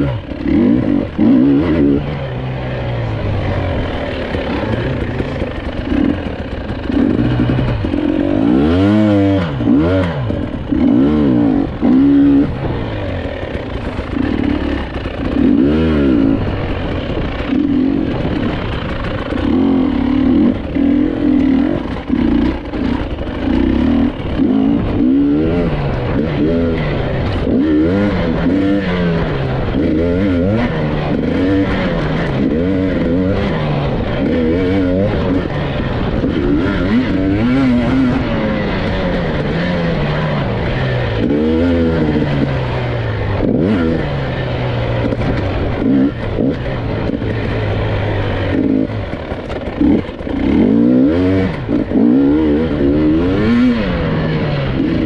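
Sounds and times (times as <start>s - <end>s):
motorcycle clattering over rough ground: 0.0s - 55.0s
motorcycle engine revving: 0.0s - 55.0s.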